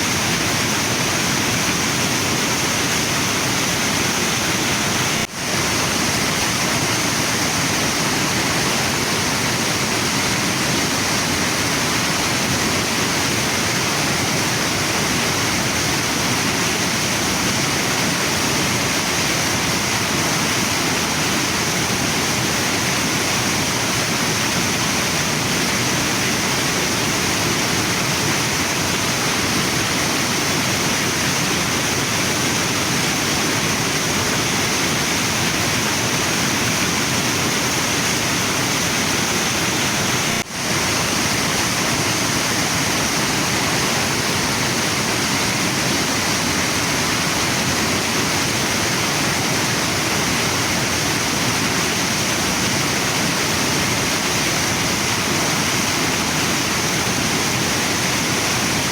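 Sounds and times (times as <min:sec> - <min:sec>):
waterfall and river rushing: 0:00.0 - 0:58.9.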